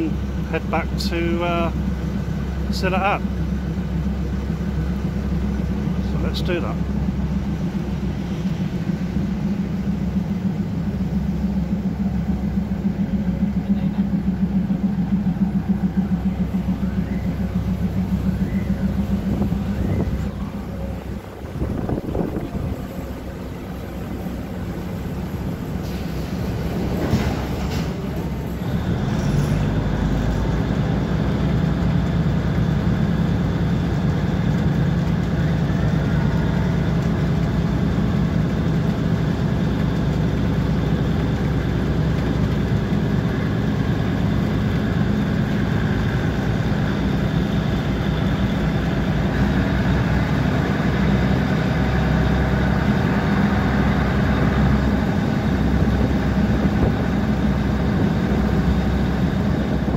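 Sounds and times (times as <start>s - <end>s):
diesel train engine droning: 0.0s - 59.9s.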